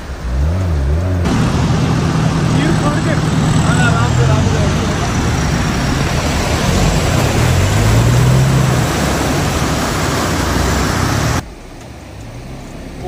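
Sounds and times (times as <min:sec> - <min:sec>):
river water rushing: 0:00.0 - 0:13.0
vehicle engine revving: 0:00.0 - 0:13.0.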